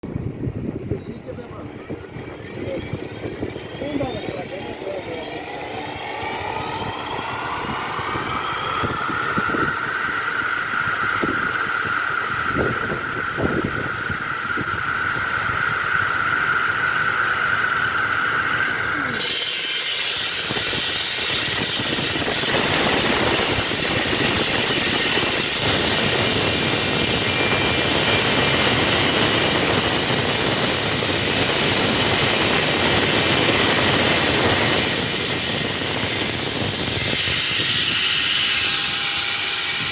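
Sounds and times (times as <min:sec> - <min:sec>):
concrete cutting grinding: 0:01.0 - 0:39.9
power tool motor whining: 0:01.3 - 0:39.9.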